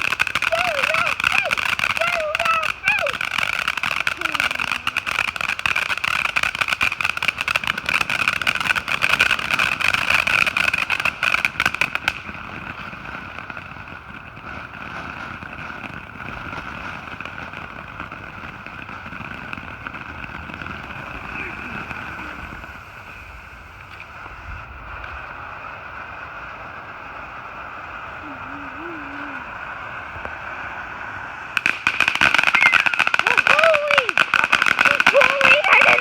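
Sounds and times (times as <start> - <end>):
ground firework crackling: 0.0 - 36.0.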